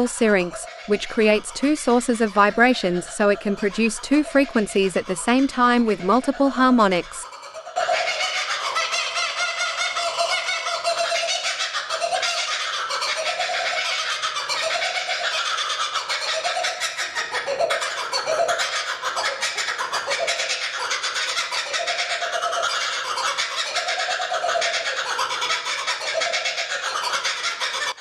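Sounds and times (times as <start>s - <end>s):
kookaburra laughing call: 0.0s - 28.0s.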